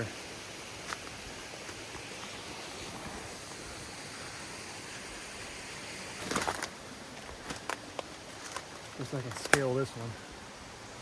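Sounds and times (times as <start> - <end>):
rushing forest background noise: 0.0 - 11.0.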